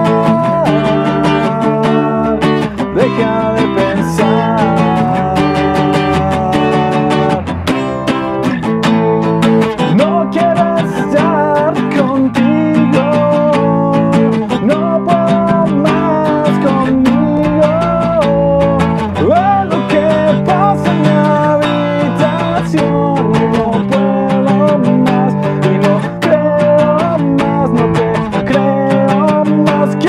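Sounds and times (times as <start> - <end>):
man singing: 0.0 - 7.8, 9.3 - 30.0
acoustic guitar strummed and picked: 0.0 - 30.0.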